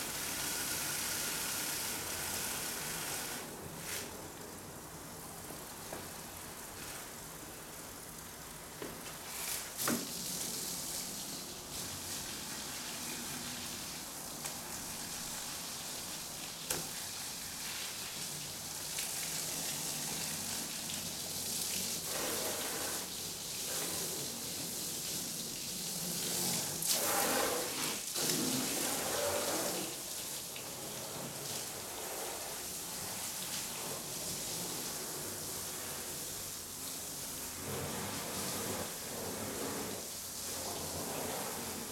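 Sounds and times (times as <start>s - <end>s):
hose spray splashing on car: 0.0s - 4.2s, 5.5s - 41.9s.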